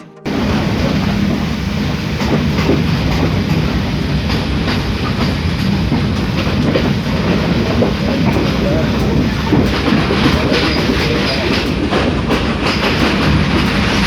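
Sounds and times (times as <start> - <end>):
train wheels rumbling on rail: 0.3 - 14.0
wheels clacking over rail joints: 0.3 - 14.0.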